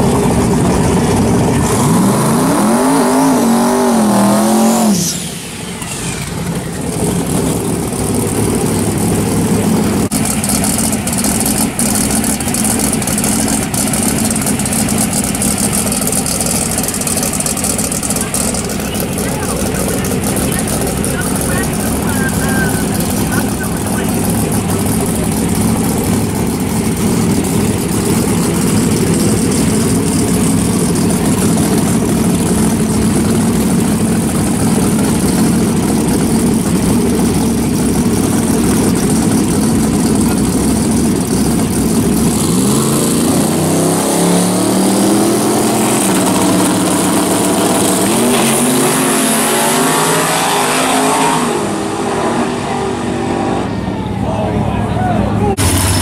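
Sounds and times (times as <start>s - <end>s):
racing car engines revving: 0.0s - 56.0s.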